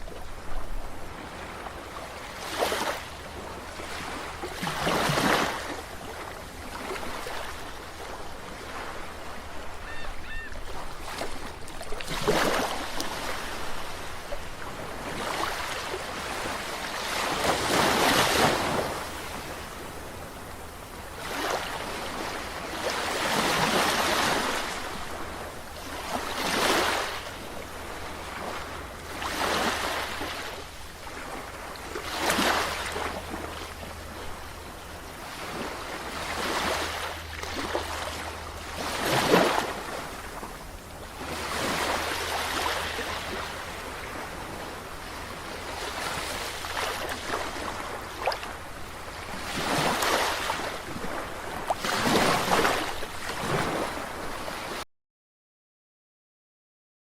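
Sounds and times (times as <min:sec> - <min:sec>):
sea waves washing in: 0:00.0 - 0:54.8.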